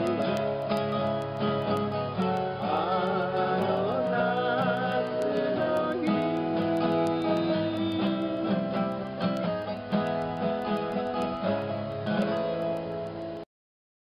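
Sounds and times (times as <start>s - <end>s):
guitars playing: 0.0s - 13.4s.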